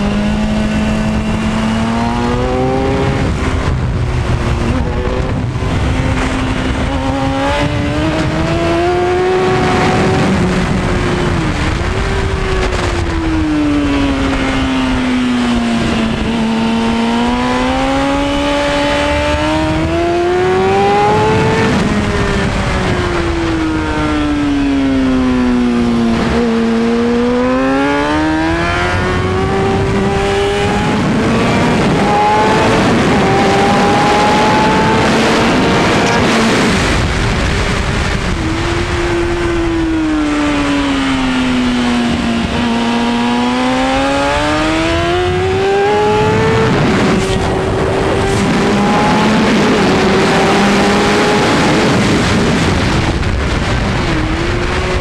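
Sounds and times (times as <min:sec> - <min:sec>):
motorcycle engine running hard: 0:00.0 - 0:55.0
wind rush: 0:00.0 - 0:55.0.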